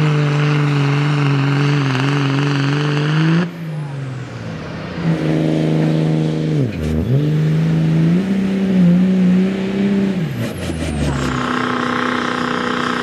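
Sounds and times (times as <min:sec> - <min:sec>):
diesel pickup engine revving: 0:00.0 - 0:13.0.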